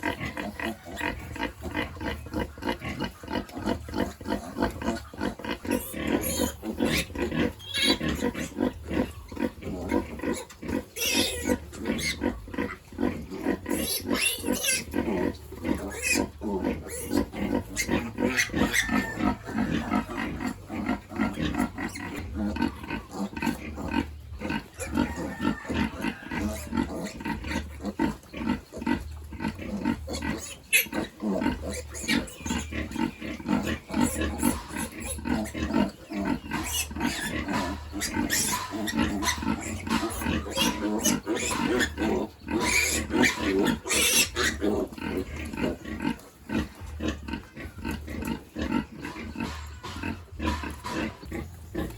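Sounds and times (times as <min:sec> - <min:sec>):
piglets squealing: 0:00.0 - 0:51.9
pigs grunting: 0:00.0 - 0:51.9.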